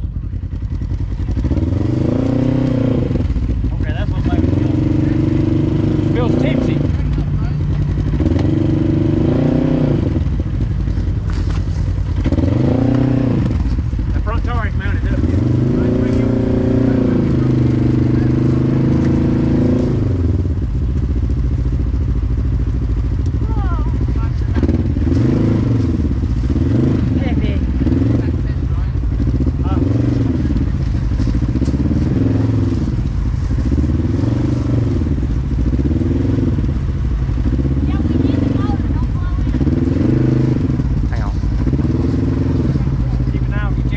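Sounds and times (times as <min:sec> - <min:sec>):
utility vehicle engine revving: 0:00.0 - 0:43.9.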